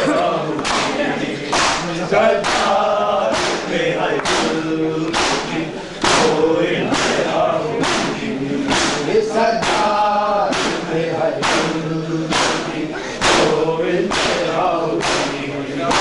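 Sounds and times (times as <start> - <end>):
men chanting in unison: 0.0 - 16.0
hands slapping bare chests: 0.6 - 9.9, 10.5 - 10.8, 11.4 - 16.0.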